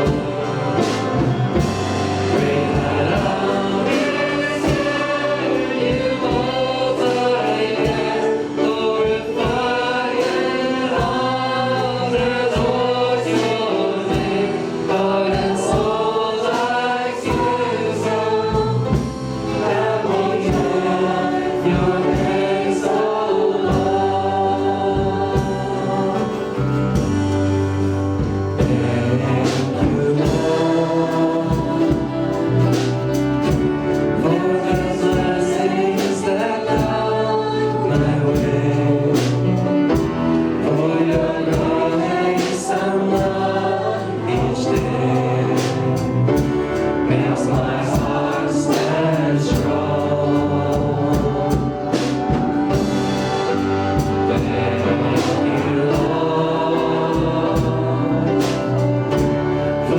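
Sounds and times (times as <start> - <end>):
group singing worship song: 0.0 - 59.9
live band with steady beat: 0.0 - 59.9.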